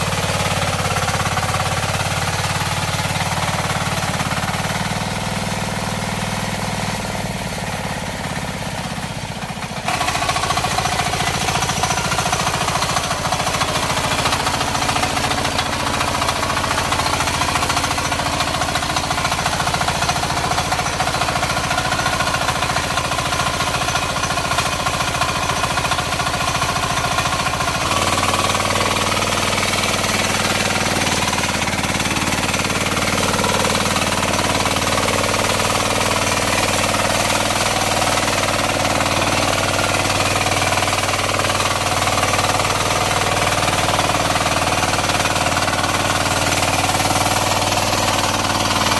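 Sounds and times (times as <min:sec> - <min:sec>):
diesel engine hammering: 0:00.0 - 0:48.9.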